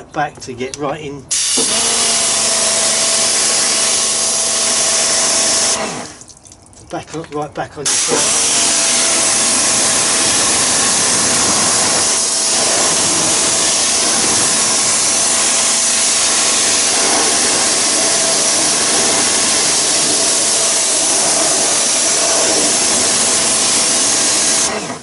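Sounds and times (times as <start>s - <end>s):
pressure washer spray hissing: 1.3s - 6.2s, 7.8s - 25.0s.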